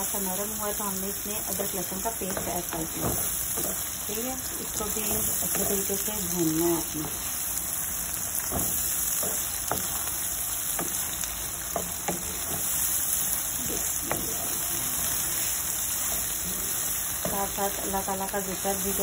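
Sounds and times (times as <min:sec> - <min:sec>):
onions sizzling in a frying pan: 0:00.0 - 0:19.0.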